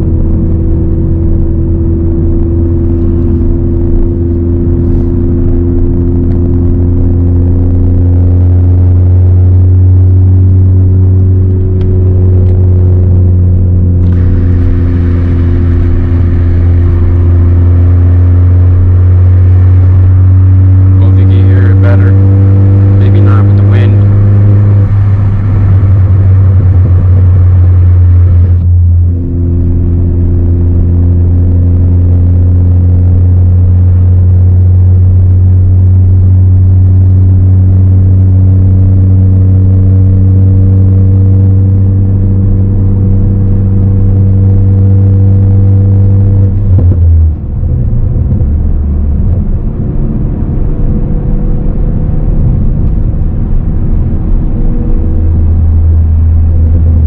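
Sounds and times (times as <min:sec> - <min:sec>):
car exhaust droning while driving: 0:00.0 - 0:57.0.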